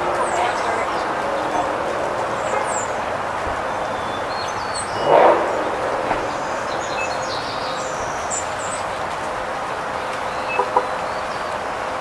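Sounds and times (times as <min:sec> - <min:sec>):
songbird chirps: 0:00.0 - 0:12.0.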